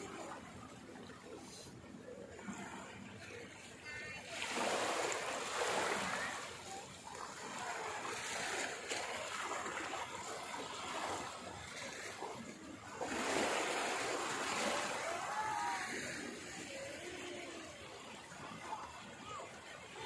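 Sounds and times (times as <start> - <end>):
water rushing and splashing: 2.3 - 20.0.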